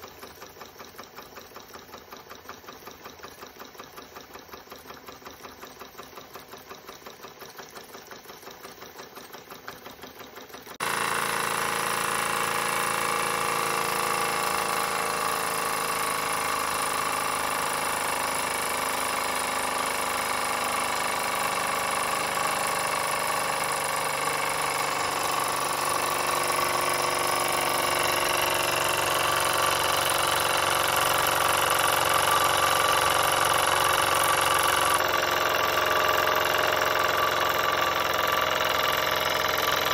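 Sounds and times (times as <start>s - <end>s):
steady mechanical whir: 0.0s - 39.9s
toy steam engine chuffing: 0.0s - 39.9s.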